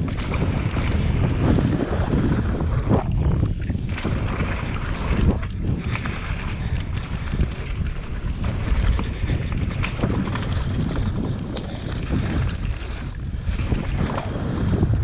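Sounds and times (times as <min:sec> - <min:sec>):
bike clicks and rattles: 0:00.0 - 0:15.0
bike tyres rumbling on dirt: 0:00.0 - 0:15.0
wind buffeting microphone: 0:00.0 - 0:15.0.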